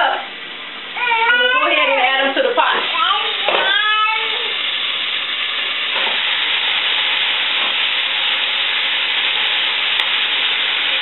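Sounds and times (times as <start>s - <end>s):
greens sizzling in a pot: 1.4s - 11.0s.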